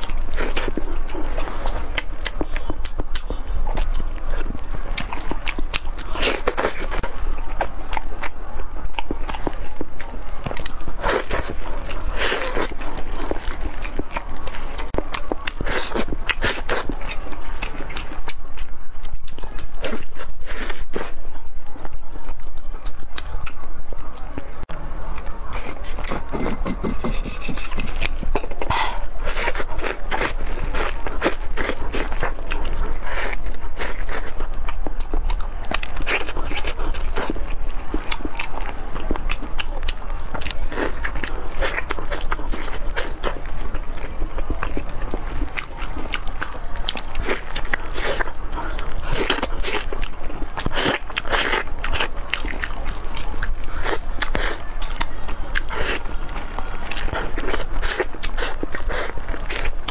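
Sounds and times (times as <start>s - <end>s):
chewing meat: 0.0s - 59.9s.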